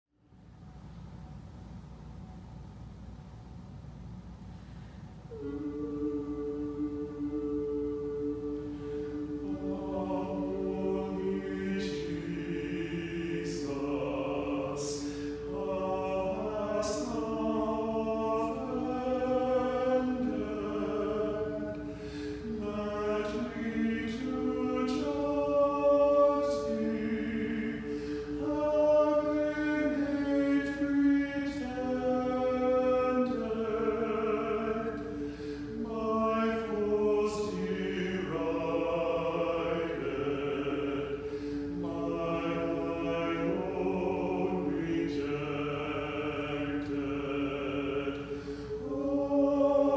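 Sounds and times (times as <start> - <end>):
mixed choir singing: 5.3 - 49.9.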